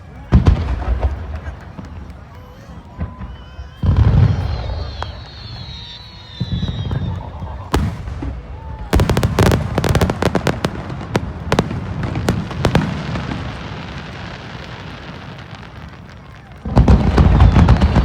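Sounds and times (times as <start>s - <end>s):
crackling firework bangs: 0.0s - 18.0s.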